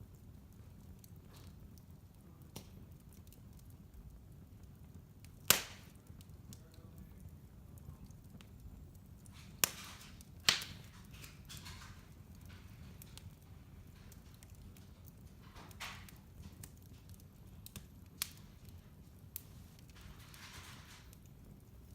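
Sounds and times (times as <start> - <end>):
sharp pops of fire: 0.0 - 21.9
wood fire crackling: 0.0 - 21.9.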